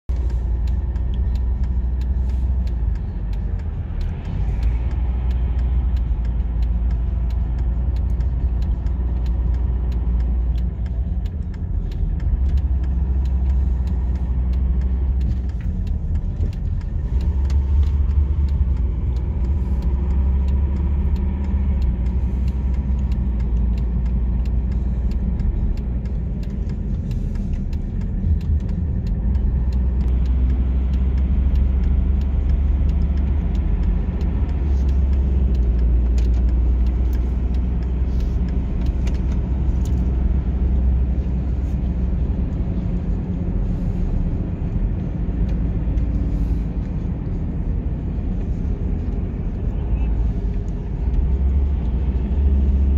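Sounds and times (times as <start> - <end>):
car interior road and engine rumble: 0.0 - 52.9.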